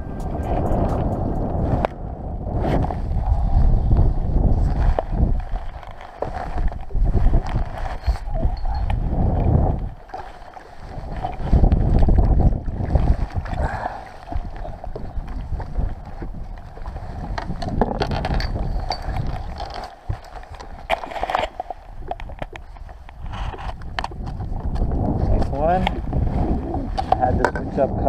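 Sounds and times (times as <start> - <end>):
wind buffeting microphone: 0.0 - 28.0
water lapping against boat hull: 0.1 - 28.0.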